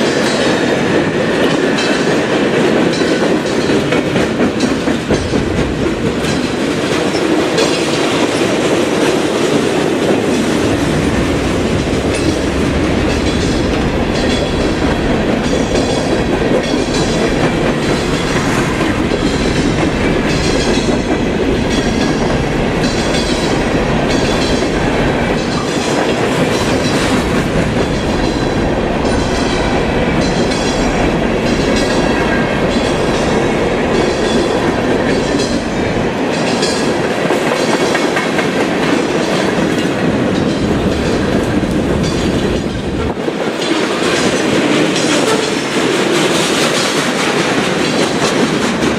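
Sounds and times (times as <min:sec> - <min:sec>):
train wheels clacking over rail joints: 0:00.0 - 0:48.9.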